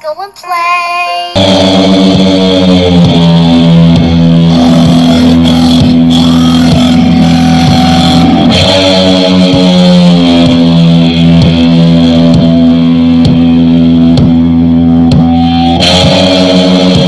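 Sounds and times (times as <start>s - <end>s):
distorted electric guitar: 1.3s - 17.0s.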